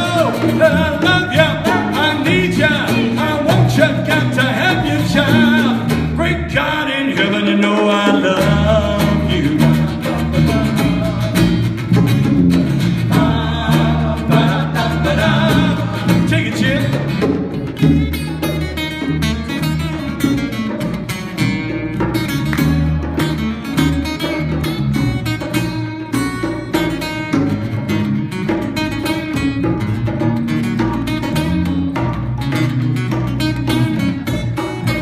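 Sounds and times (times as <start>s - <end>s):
bass line: 0.0s - 35.0s
drums: 0.0s - 35.0s
electric guitar: 0.0s - 35.0s.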